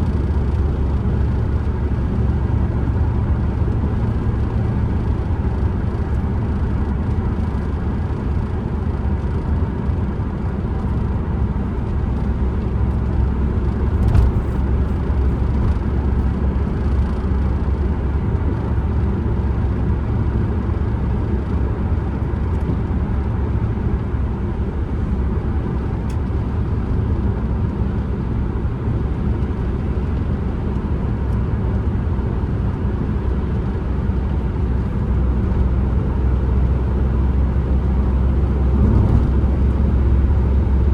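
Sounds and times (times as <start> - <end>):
van engine and road rumble: 0.0 - 40.9.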